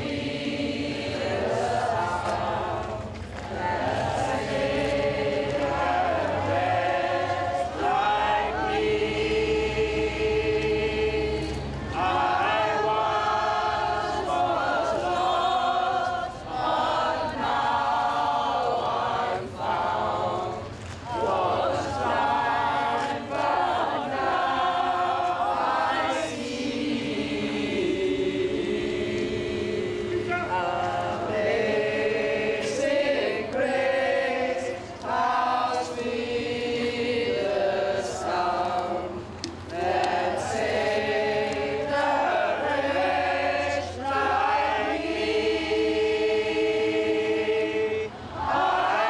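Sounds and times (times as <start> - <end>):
choir singing: 0.0 - 49.0.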